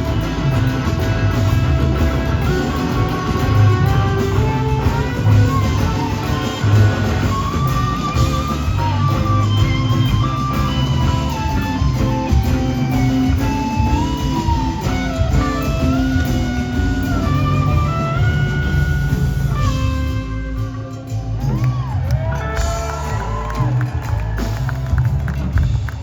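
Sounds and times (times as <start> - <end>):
electric guitar lead: 0.0 - 25.7
rock band playing: 0.0 - 26.0.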